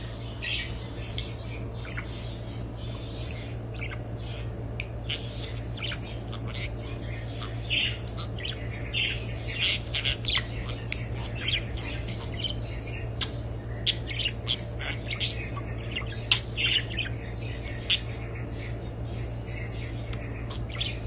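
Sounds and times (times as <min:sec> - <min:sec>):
parrots chirping and squawking: 0:00.0 - 0:21.0
steady low hum: 0:00.0 - 0:21.0.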